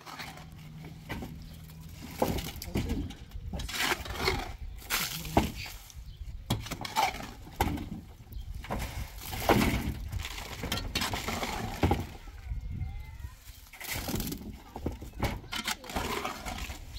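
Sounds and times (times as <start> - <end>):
hand tools scraping and knocking: 0.0 - 5.8, 6.5 - 12.3, 13.6 - 16.9.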